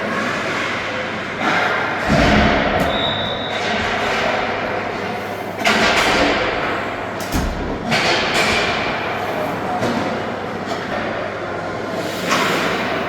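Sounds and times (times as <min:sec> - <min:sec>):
ice hockey arena din: 0:00.0 - 0:13.0.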